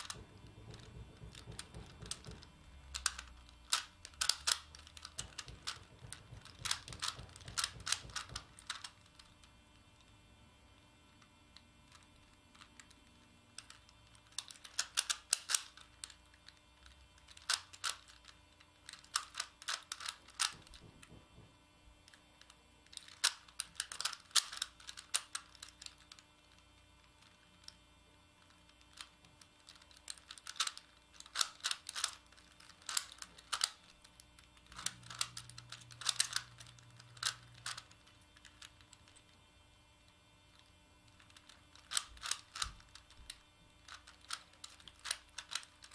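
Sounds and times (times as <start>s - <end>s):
puzzle plastic faces clicking: 0.0s - 9.5s, 13.6s - 21.4s, 22.0s - 26.7s, 28.4s - 39.2s, 41.1s - 45.9s.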